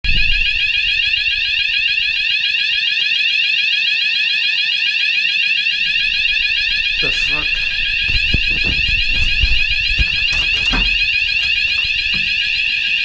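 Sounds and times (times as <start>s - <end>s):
fire alarm warbling: 0.0s - 13.0s.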